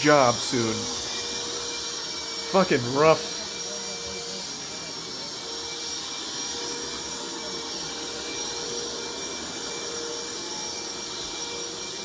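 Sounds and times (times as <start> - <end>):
wet vac whining and hissing: 0.0 - 12.0.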